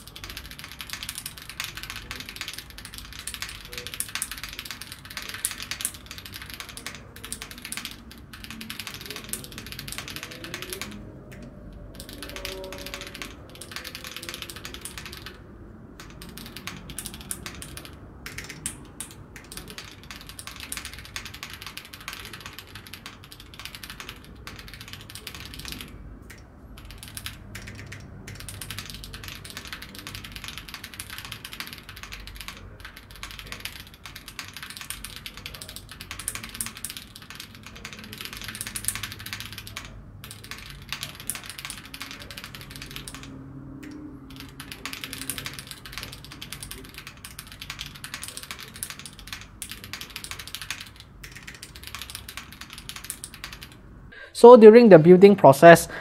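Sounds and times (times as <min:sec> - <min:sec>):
mechanical keyboard key clacks: 0:00.0 - 0:15.4, 0:16.0 - 0:53.8.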